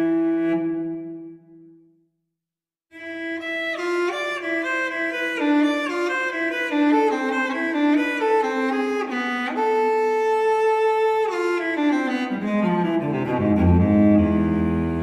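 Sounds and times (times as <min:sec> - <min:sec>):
solo cello melody: 0:00.0 - 0:01.6, 0:03.0 - 0:15.0.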